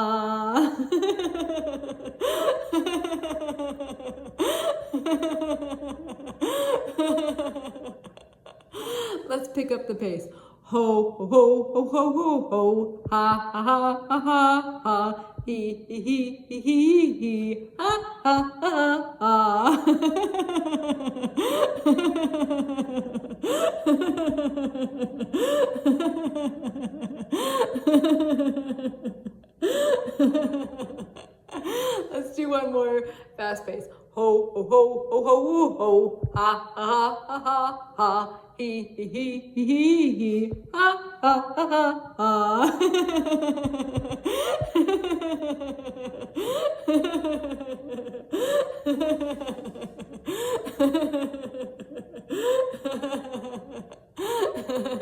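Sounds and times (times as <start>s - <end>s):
woman laughing: 0.0s - 9.9s, 13.6s - 32.8s, 39.2s - 55.0s.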